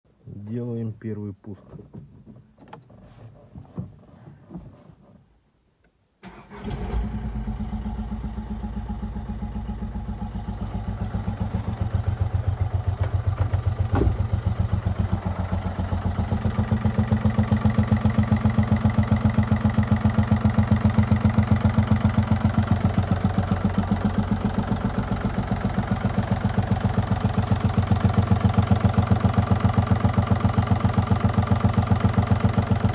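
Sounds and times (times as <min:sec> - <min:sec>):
diesel engine cranking: 0:06.2 - 0:32.9
diesel engine idling clatter: 0:06.5 - 0:32.9.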